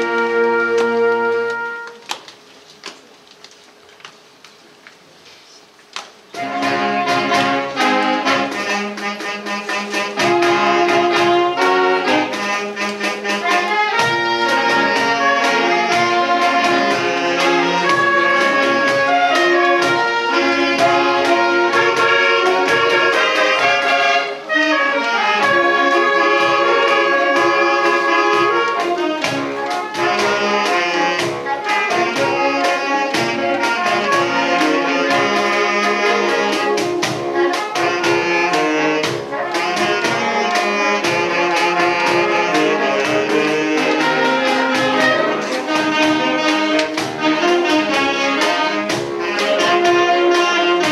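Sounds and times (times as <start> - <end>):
saxophone ensemble playing: 0.0 - 2.1, 6.3 - 50.9.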